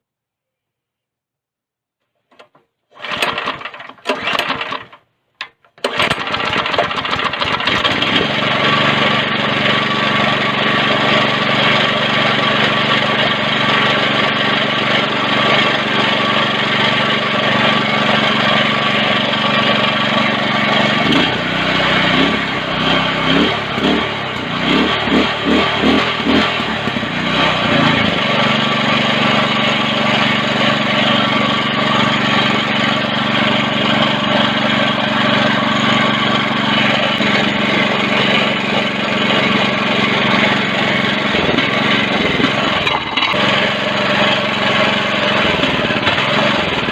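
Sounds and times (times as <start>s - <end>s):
go-kart engine running: 2.4s - 5.0s, 5.8s - 46.9s.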